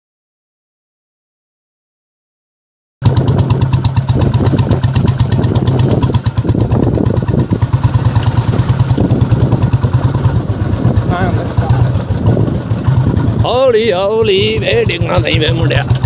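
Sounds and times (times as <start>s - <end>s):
motorcycle engine running: 3.0s - 16.0s.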